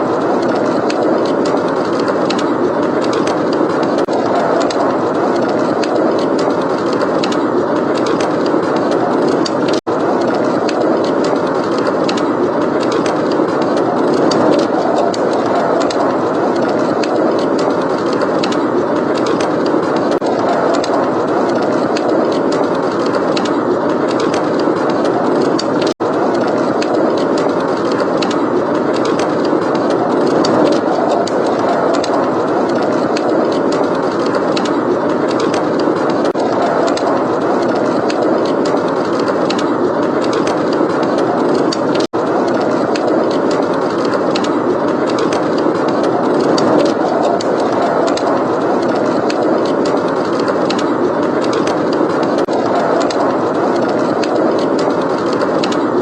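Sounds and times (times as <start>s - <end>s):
blizzard wind: 0.0s - 56.0s
wood fire crackling: 0.0s - 56.0s.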